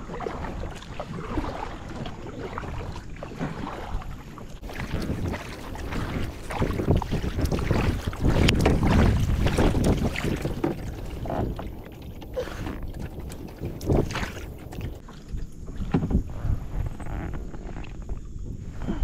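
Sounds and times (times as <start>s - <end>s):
water splashing around kayak: 0.0s - 19.0s
wind buffeting microphone: 0.0s - 19.0s.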